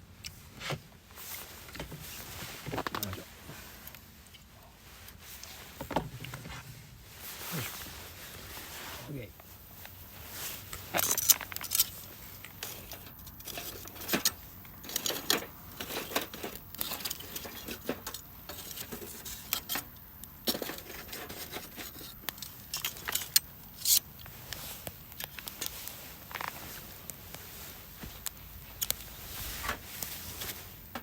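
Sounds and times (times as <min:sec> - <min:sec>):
gear rustling: 0:01.1 - 0:31.0.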